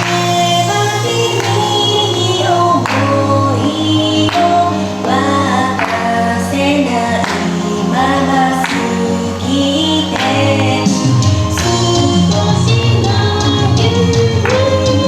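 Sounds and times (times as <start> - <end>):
backing track with steady beat: 0.0 - 15.0
woman singing pop song: 0.0 - 15.0.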